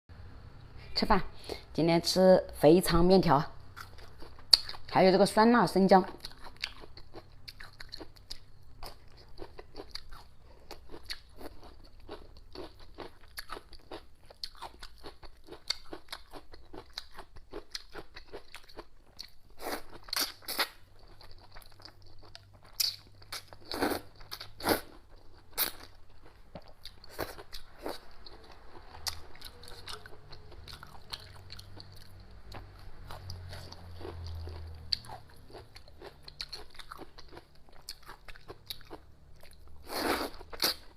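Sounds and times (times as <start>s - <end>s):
person chewing crunchy food: 3.7s - 4.9s, 6.0s - 40.9s.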